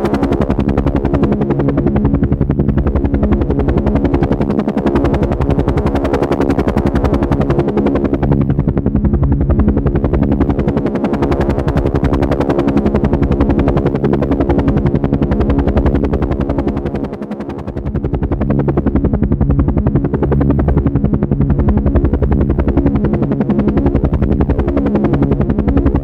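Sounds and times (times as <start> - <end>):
helicopter engine hum: 0.0 - 26.0
helicopter rotor blades chopping: 0.0 - 26.0.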